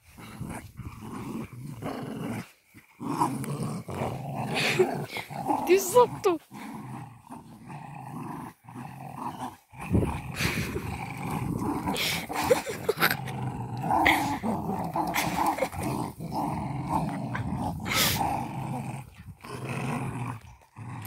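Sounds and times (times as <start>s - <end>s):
puppies growling: 0.0s - 21.0s
puppies snorting: 0.0s - 21.0s.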